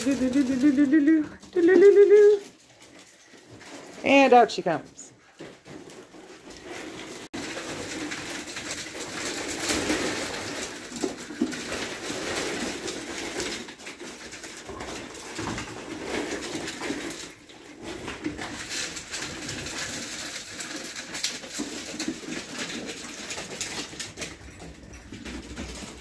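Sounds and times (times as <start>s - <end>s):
ferrets scrabbling in plastic tubes: 0.0s - 26.0s.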